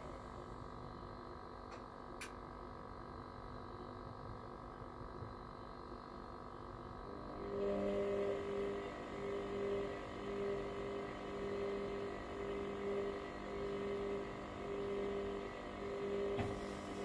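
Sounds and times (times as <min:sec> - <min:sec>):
washer-dryer motor hum: 0:00.0 - 0:17.0.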